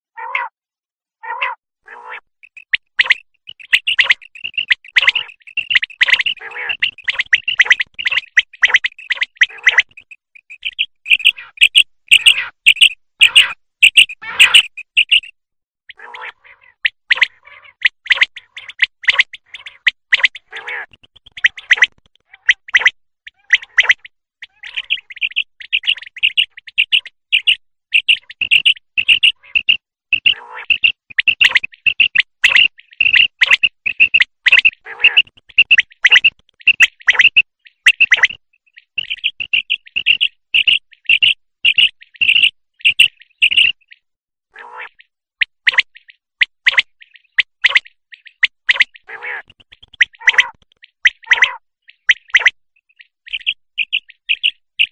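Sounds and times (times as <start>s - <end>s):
quail calling: 0.2s - 0.5s, 1.2s - 15.3s, 15.9s - 54.9s.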